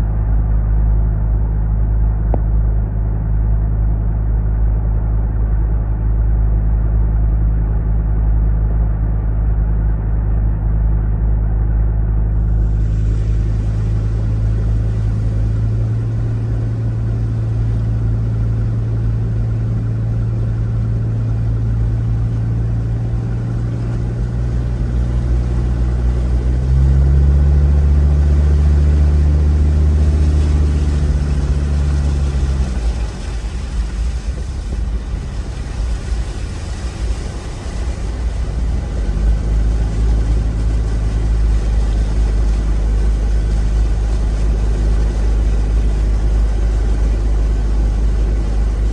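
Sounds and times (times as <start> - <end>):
deep engine: 0.0 - 48.9
vehicle engines humming at low speed: 0.0 - 48.9.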